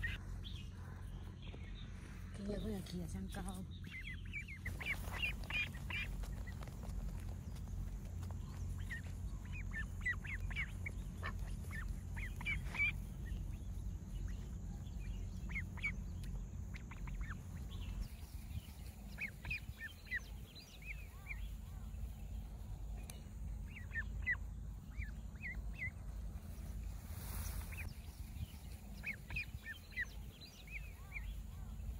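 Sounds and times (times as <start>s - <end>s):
ducklings peeping: 0.0s - 31.9s
low rumble: 0.0s - 31.9s.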